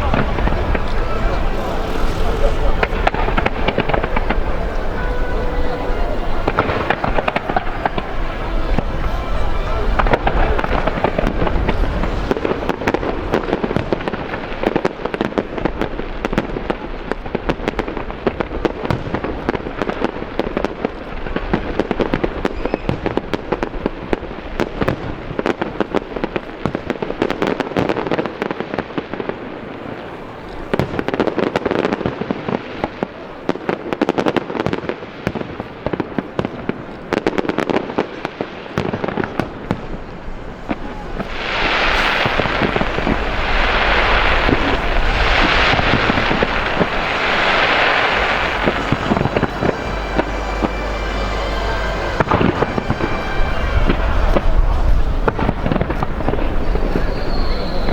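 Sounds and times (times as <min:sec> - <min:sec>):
fireworks cracking and popping: 0:00.0 - 0:28.3, 0:30.2 - 0:57.9.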